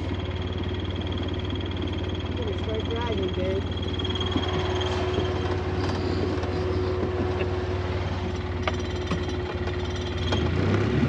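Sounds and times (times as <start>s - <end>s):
constant hum: 0.0s - 11.0s
vehicle engine running: 0.0s - 11.0s.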